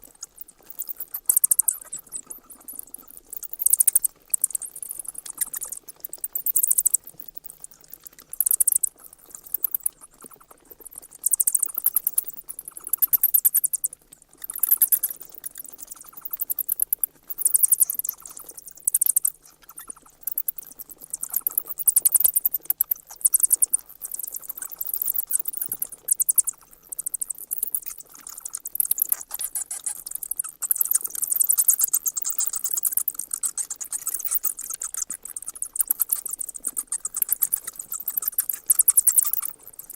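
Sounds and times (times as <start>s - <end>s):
bats squeaking: 0.0s - 39.9s.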